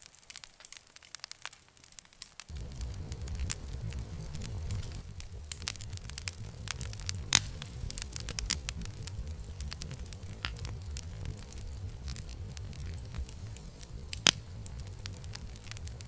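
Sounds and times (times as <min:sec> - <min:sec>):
burning wood popping: 0:00.0 - 0:16.0
campfire crackling: 0:00.0 - 0:16.0
low fire rumble: 0:00.1 - 0:16.0.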